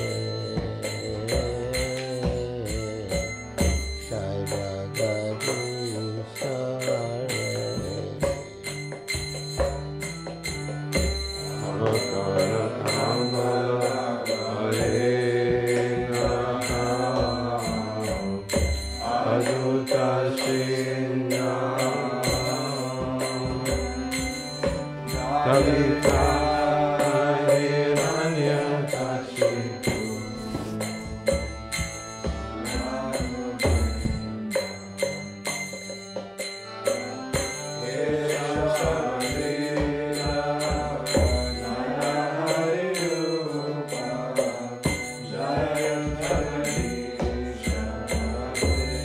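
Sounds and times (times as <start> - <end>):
hand cymbals clinking: 0.0 - 49.0
harmonium tones: 0.0 - 49.0
melodic chanting: 0.0 - 49.0.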